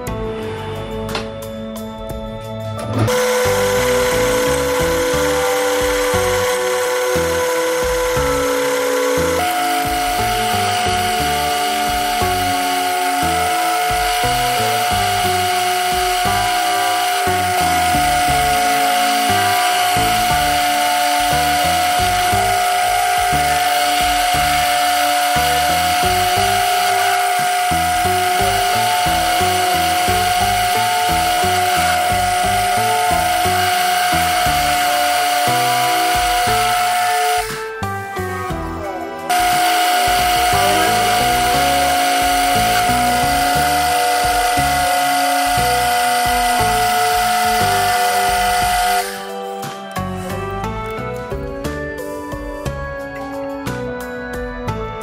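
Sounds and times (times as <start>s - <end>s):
metal lathe whine: 0.0s - 49.6s
background music: 0.0s - 55.0s.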